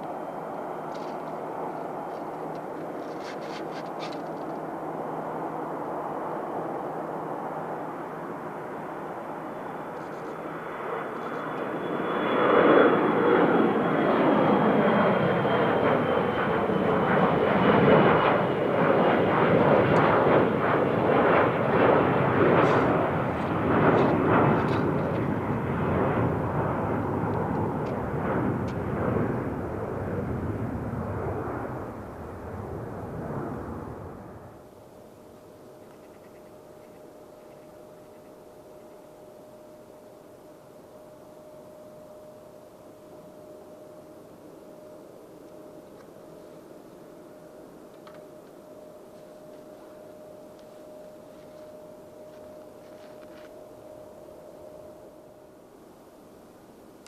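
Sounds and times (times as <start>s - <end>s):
jet passing with high whine: 0.0s - 57.0s.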